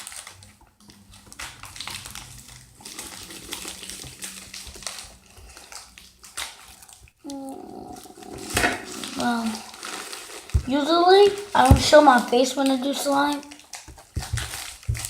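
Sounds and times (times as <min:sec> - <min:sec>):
slime squelching: 0:00.0 - 0:15.0.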